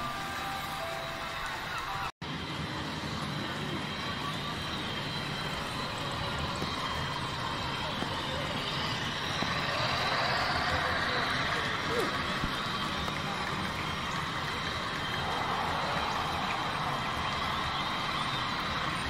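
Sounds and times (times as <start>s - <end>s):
model train rumbling whir: 0.0s - 19.0s.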